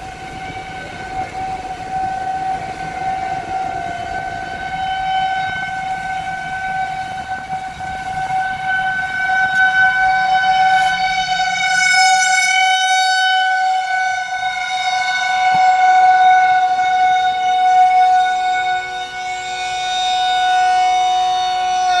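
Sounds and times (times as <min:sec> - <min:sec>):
warning siren steady tone: 0:00.0 - 0:22.0.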